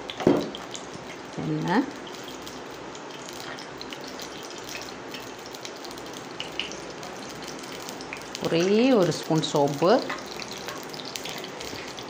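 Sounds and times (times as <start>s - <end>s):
oil hissing in a pan: 0.0s - 12.0s
faint crackles: 0.1s - 12.0s.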